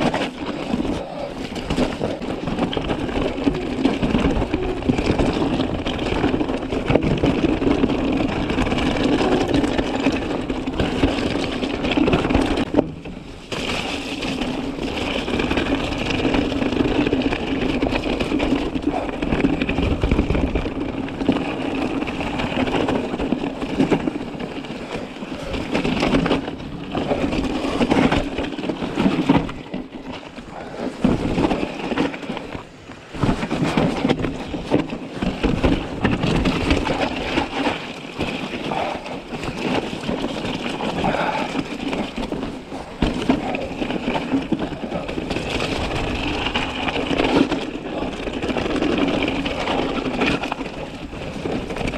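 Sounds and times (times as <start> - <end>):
bike clattering over bumps: 0.0 - 51.9
bike tyres crunching over stones: 0.0 - 51.9.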